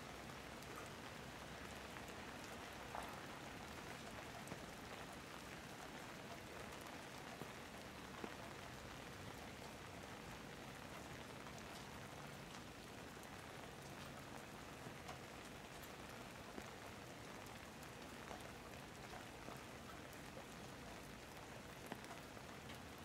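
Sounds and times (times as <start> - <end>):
steady rain: 0.0 - 23.0
raindrops ticking: 0.1 - 23.0.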